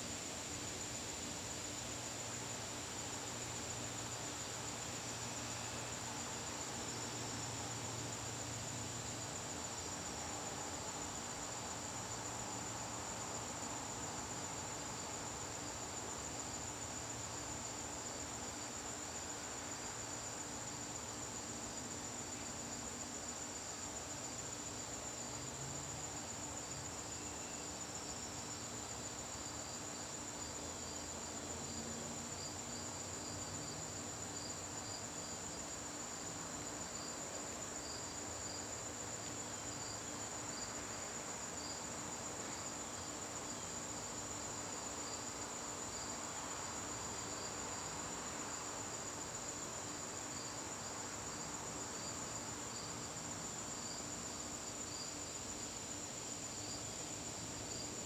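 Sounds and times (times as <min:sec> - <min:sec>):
lower-pitched cricket chirping: 0:00.0 - 0:58.0.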